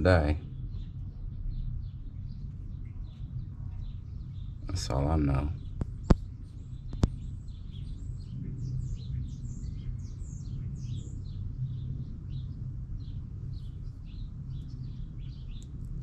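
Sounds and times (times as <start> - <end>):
low background hum: 0.0 - 16.0
songbirds chirping: 0.0 - 16.0.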